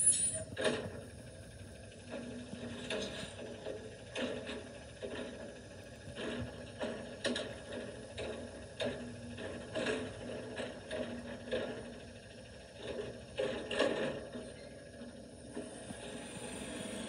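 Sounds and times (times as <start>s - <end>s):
garbage truck engine running: 0.0s - 17.0s.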